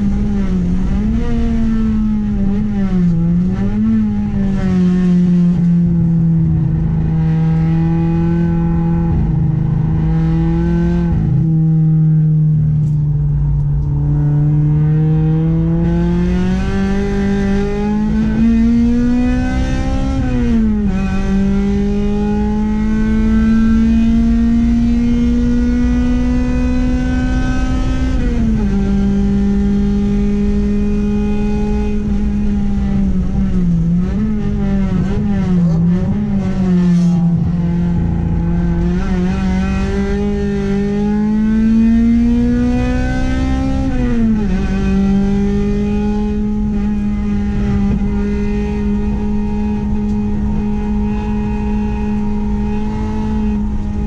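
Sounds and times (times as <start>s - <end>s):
car engine revving hard: 0.0s - 12.8s, 13.6s - 54.0s.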